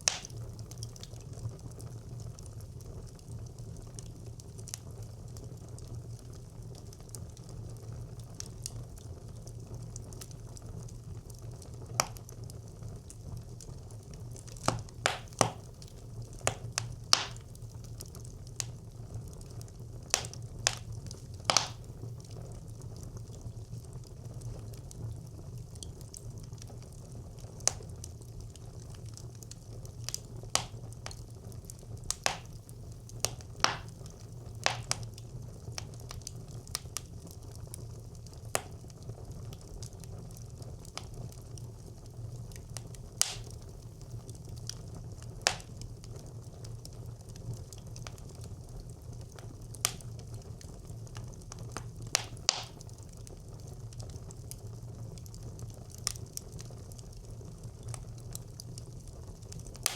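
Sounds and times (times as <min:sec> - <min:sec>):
fire low rumble: 0:00.0 - 0:59.9
wood fire crackling and popping: 0:00.0 - 0:59.9.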